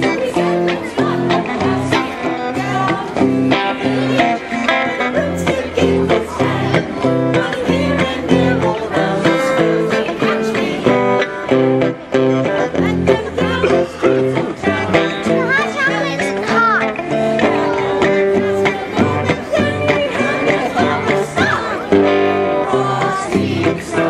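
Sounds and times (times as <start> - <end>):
group singing a carol: 0.0 - 15.6, 17.0 - 24.0
electric guitar strumming: 0.0 - 24.0.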